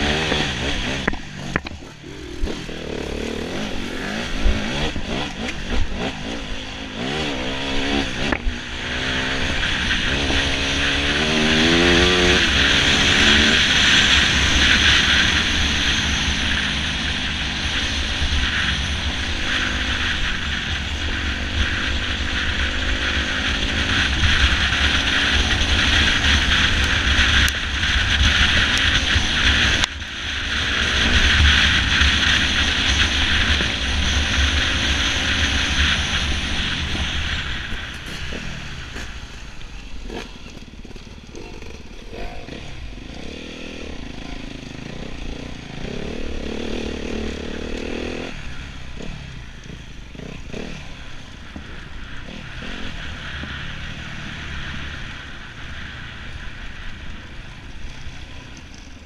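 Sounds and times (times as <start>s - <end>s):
loud steady rushing noise: 0.0s - 59.0s
motorcycle engine revving: 0.0s - 59.0s.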